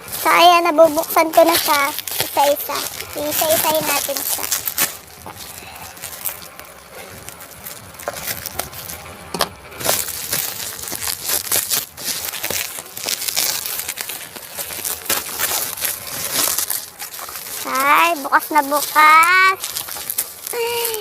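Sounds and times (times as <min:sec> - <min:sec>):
plastic packaging crinkling and tearing: 0:00.0 - 0:21.0.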